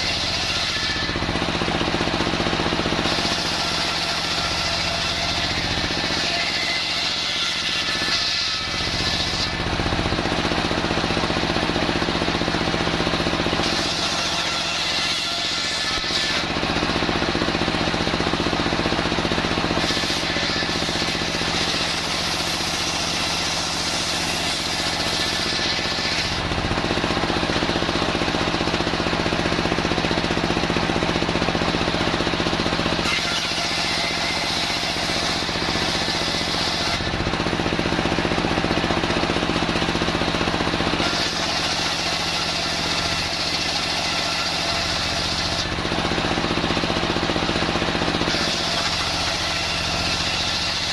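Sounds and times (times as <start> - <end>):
circular saw cutting timber: 0.0 - 50.9.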